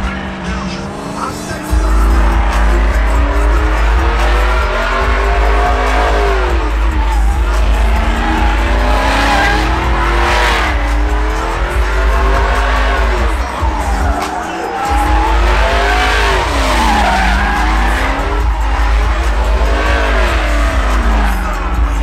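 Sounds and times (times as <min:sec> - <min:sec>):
pickup truck engine revving: 0:00.0 - 0:22.0
spinning tyres squealing: 0:00.0 - 0:22.0.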